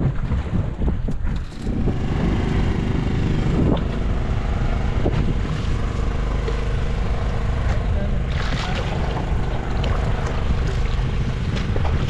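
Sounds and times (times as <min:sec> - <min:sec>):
boat engine running: 0:00.0 - 0:12.0
water noise: 0:00.0 - 0:12.0
wind noise: 0:00.0 - 0:12.0.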